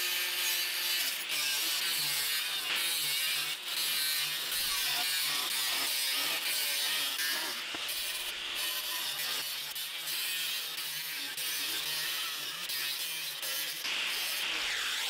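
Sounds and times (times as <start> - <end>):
angle grinder cutting steel: 0.0 - 15.0.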